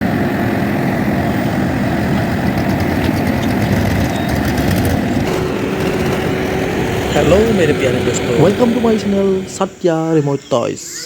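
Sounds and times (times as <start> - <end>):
diesel engine running: 0.0 - 10.7.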